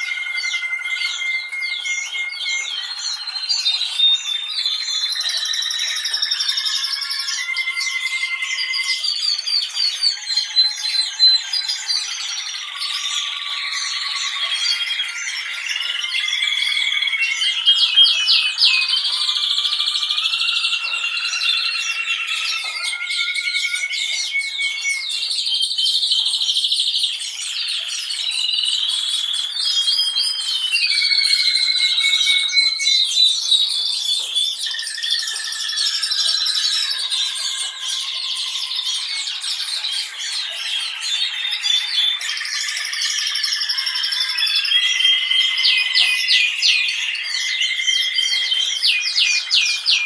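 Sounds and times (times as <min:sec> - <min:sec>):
canaries singing: 0:00.0 - 0:50.0.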